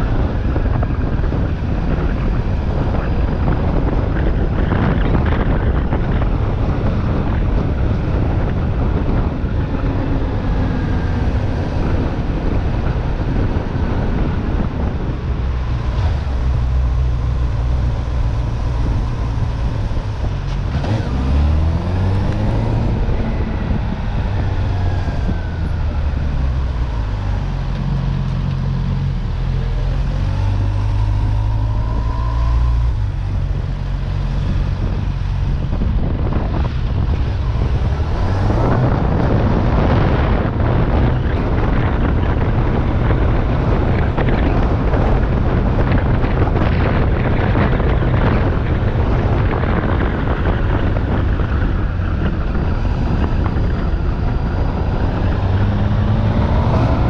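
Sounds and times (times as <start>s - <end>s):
road and wind noise: 0.0s - 57.0s
vehicle engine accelerating: 0.0s - 57.0s.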